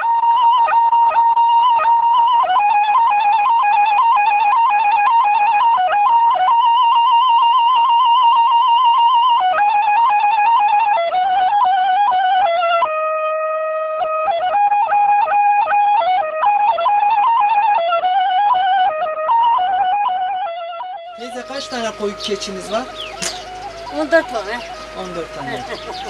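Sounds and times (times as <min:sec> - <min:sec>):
high trilling melody: 0:00.0 - 0:26.0.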